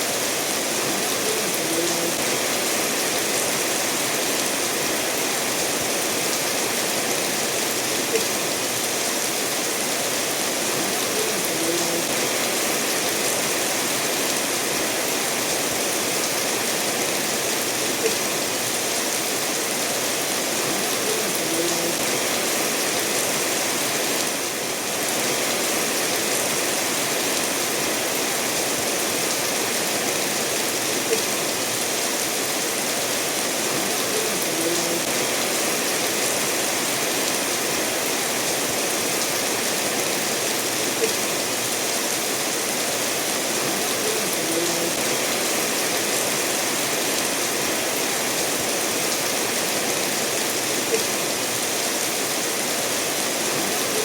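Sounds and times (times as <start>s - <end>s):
steady rain falling: 0.0s - 54.0s
stream flowing over stones: 0.0s - 54.0s.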